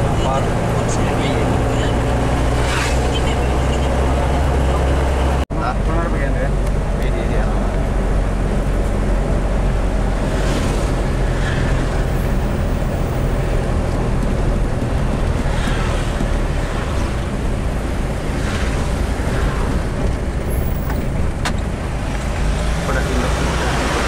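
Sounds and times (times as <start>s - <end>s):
engine and road noise rumble: 0.0s - 24.0s.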